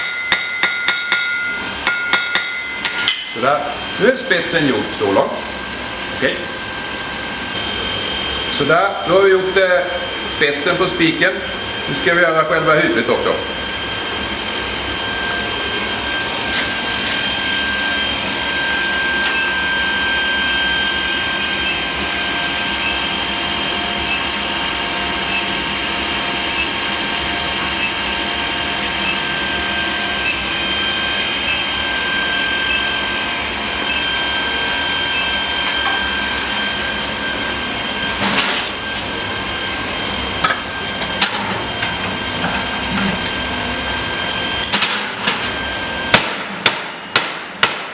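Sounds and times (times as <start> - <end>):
induction heater whine: 0.0 - 47.7.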